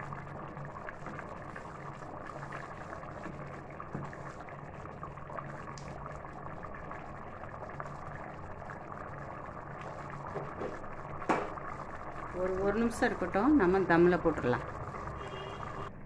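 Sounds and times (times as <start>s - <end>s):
rice bubbling at a boil: 0.0s - 16.0s.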